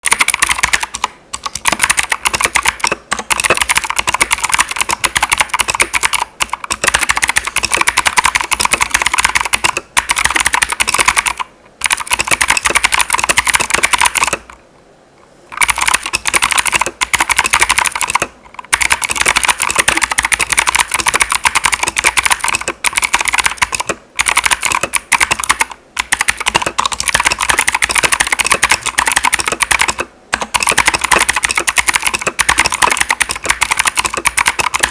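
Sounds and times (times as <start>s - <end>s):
mechanical keyboard key clicks: 0.0s - 14.6s, 15.5s - 34.9s.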